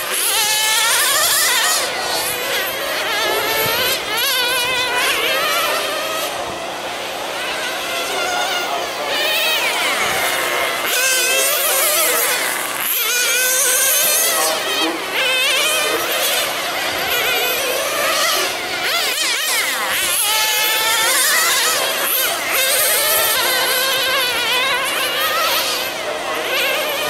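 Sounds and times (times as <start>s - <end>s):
rc car engines buzzing: 0.0s - 27.0s.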